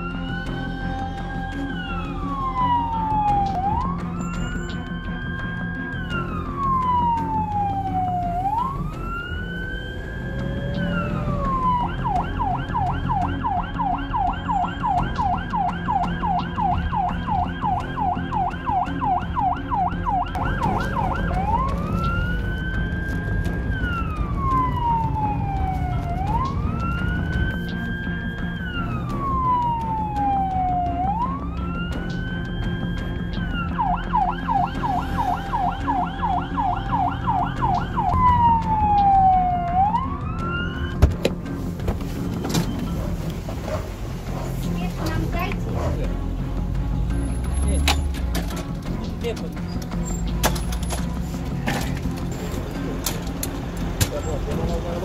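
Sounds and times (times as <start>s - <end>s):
ambulance siren wailing and yelping: 0.0s - 55.0s.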